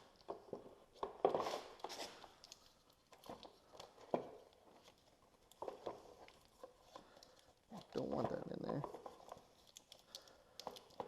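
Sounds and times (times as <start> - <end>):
rustling of parts and wiring: 0.0 - 11.0.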